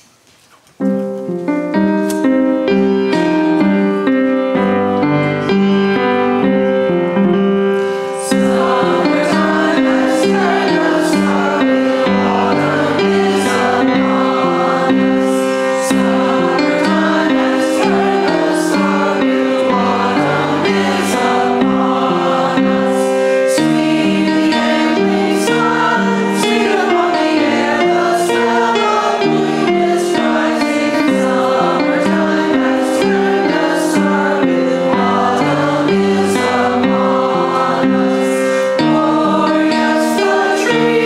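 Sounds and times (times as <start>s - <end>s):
keyboard playing: 0.8s - 41.0s
congregation singing a hymn: 1.7s - 41.0s.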